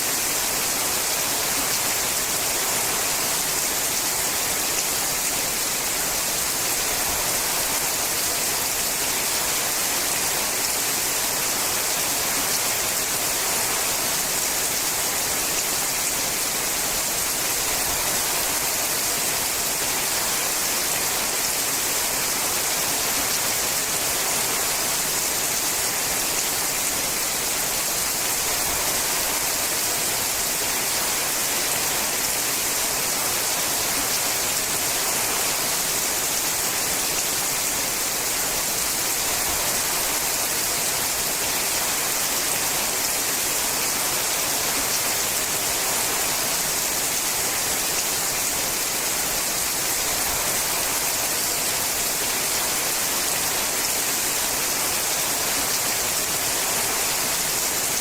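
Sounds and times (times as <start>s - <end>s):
rain on a metal roof: 0.0s - 58.0s.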